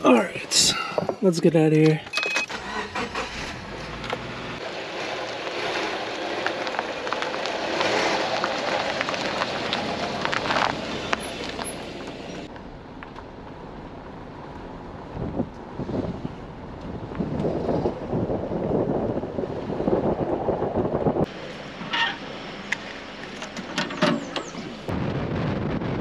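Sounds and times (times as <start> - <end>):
wind and road noise: 0.0 - 26.0
tyres rolling on gritty road: 2.5 - 15.8, 16.4 - 24.9.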